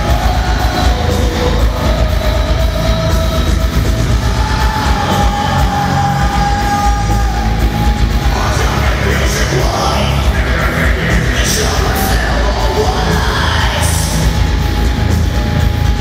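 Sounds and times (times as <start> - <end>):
metal band playing live: 0.0 - 16.0.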